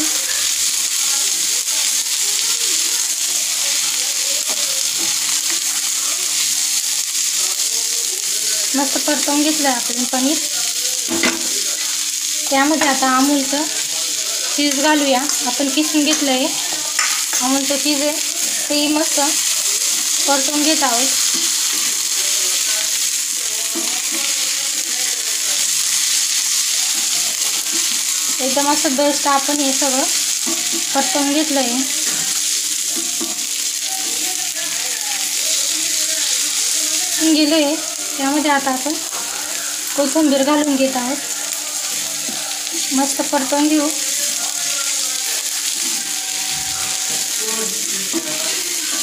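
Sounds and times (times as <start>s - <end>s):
vegetables sizzling in oil: 0.0s - 49.0s.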